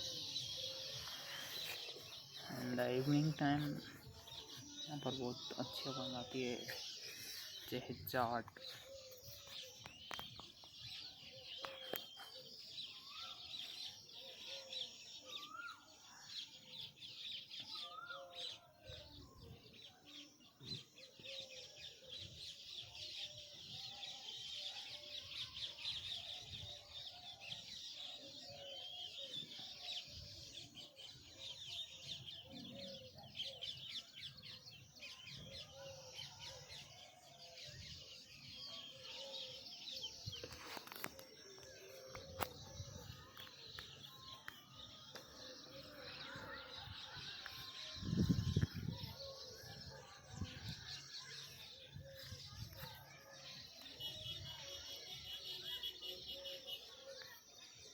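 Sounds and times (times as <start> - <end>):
small birds chirping chorus: 0.0 - 57.9.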